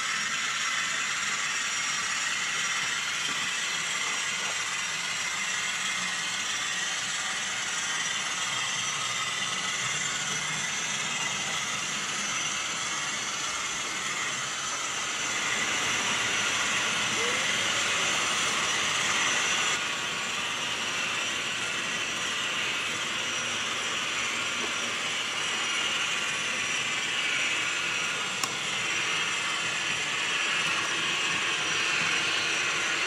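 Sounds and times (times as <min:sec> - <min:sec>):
model trains whirring and rattling: 0:00.0 - 0:33.0.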